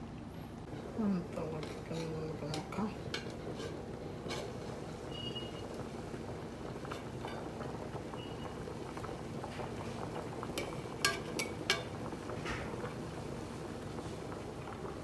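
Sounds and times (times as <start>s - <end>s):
water boiling and bubbling: 0.0s - 15.0s.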